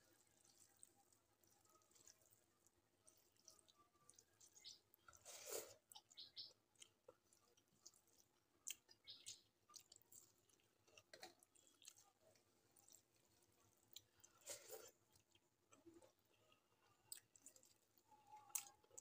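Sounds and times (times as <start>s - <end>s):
chewing and mouth clicks: 0.1s - 19.0s.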